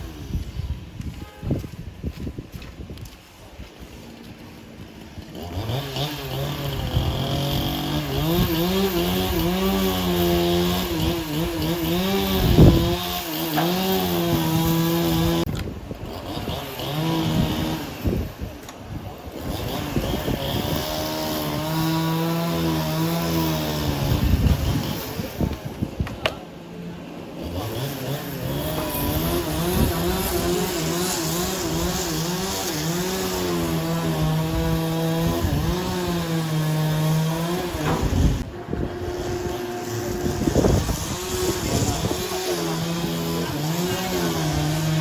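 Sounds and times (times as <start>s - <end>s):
small engine running hard: 4.2s - 45.0s.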